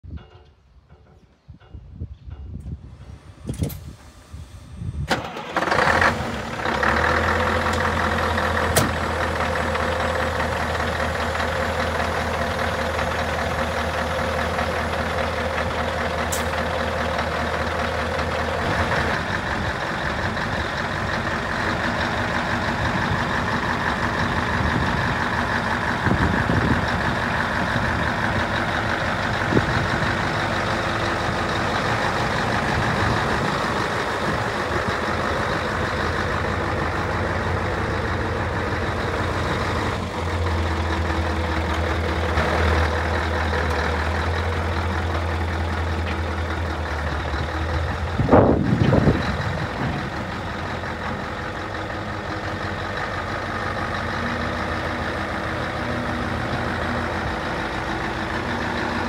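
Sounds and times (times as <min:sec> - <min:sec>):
diesel truck engine starting and idling: 0:02.7 - 0:59.0.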